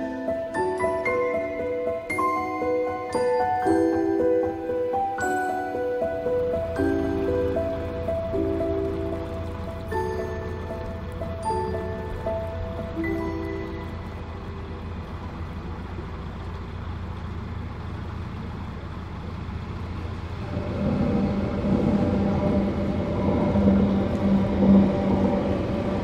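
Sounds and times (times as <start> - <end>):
diesel engine humming: 0.0 - 26.0
louder engine rumble: 0.0 - 26.0.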